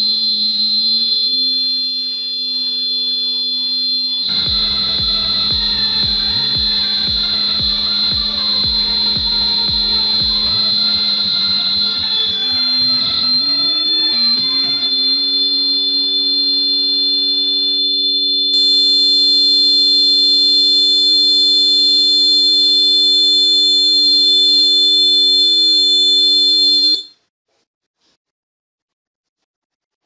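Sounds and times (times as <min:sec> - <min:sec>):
buzzer high-pitched tone: 0:00.0 - 0:27.1.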